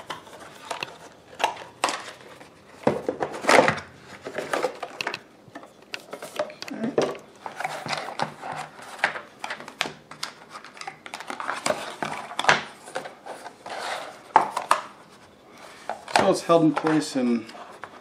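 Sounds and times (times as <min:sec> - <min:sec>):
cardboard and paper rustling: 0:00.0 - 0:05.2, 0:06.0 - 0:18.0.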